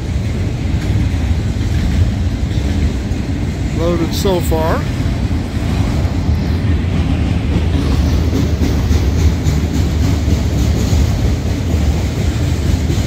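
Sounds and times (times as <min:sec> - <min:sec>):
freight cars rumbling on rails: 0:00.0 - 0:13.0.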